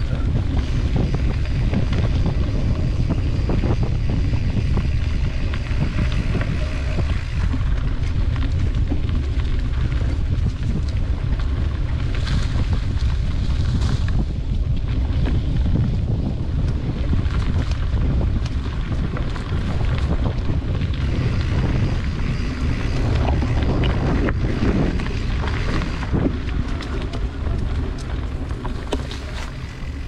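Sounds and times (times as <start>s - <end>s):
bike tyres crackling on dirt: 0.0s - 30.0s
wind buffeting microphone: 0.0s - 30.0s.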